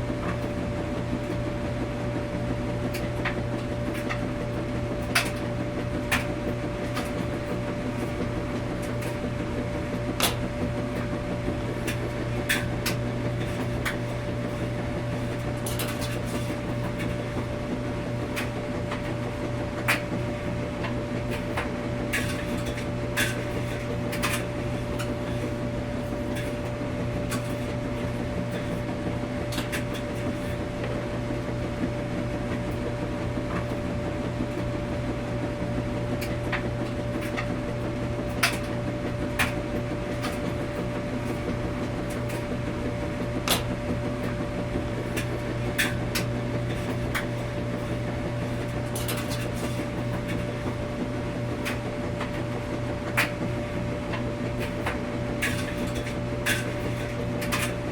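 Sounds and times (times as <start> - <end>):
washing machine humming: 0.0 - 57.9.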